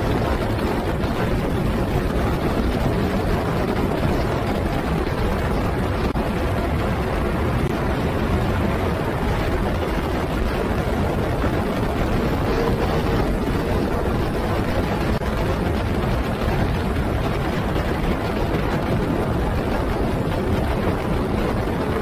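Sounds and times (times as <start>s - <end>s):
race car engine: 0.0s - 18.0s
wind rush over microphone: 0.0s - 22.0s.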